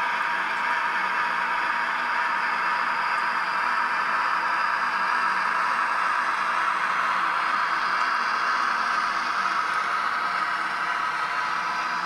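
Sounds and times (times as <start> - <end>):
model train hiss-like running: 0.0 - 12.0.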